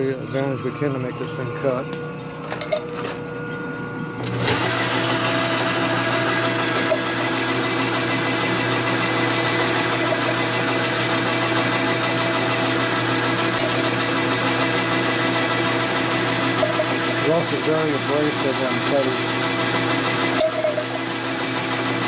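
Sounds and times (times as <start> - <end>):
metal lathe machining whir: 0.0 - 22.0.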